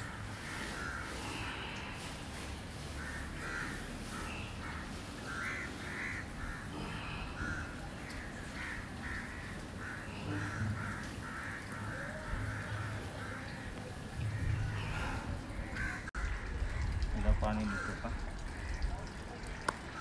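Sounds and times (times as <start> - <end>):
crows cawing: 0.0 - 2.0, 2.8 - 18.9.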